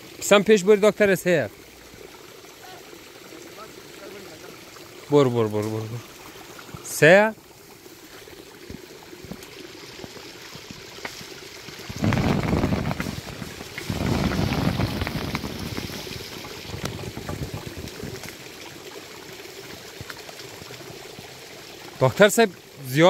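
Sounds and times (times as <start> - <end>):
stream trickling: 0.0 - 23.0.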